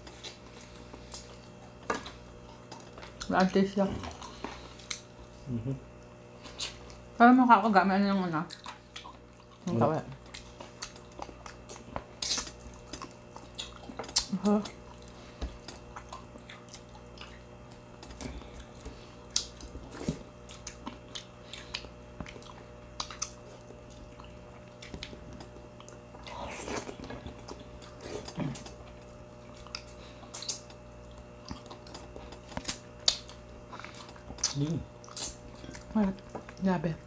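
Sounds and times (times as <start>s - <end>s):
chewing and wet mouth clicks: 0.2s - 5.1s, 8.4s - 19.8s, 20.4s - 36.6s.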